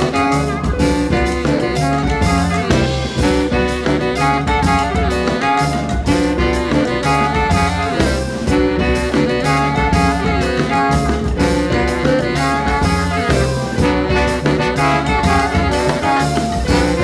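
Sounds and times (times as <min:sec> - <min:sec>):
jazz band with horns and drums: 0:00.0 - 0:17.0.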